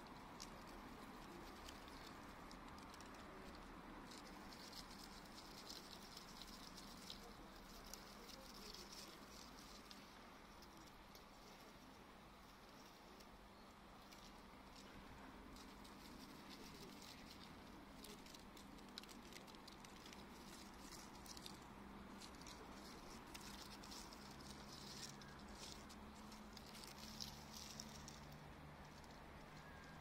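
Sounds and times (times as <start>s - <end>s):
faint low hum: 0.0s - 30.0s
light rapid ticks and rustles: 0.0s - 30.0s.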